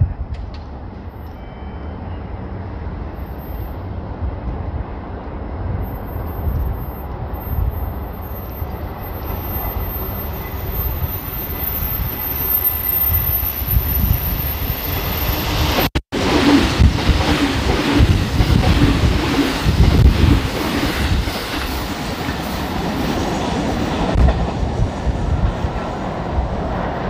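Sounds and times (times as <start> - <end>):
train rumble and rail noise: 0.0 - 27.0.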